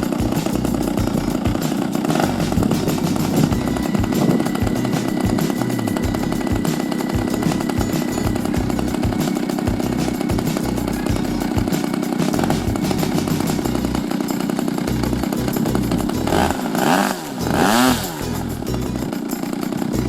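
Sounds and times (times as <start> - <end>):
model plane engine buzzing: 0.0 - 20.0.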